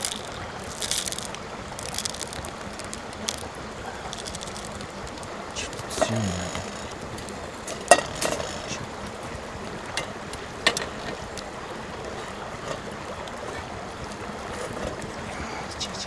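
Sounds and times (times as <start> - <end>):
fire hiss: 0.0 - 15.9
wood fire crackling: 0.0 - 16.0.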